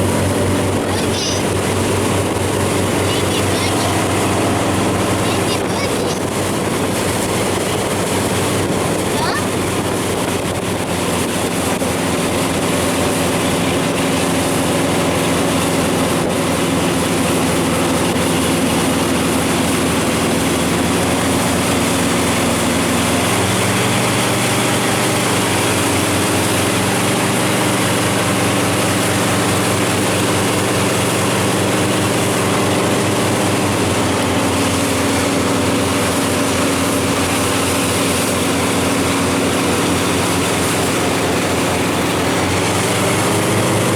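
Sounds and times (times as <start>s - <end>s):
rush of wind and water: 0.0s - 43.9s
watercraft engine running: 0.0s - 43.9s.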